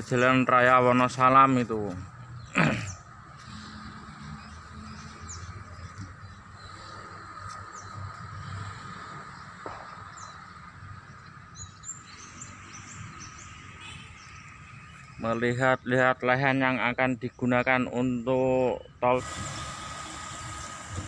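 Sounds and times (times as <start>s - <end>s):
small birds chirping: 0.0s - 19.2s.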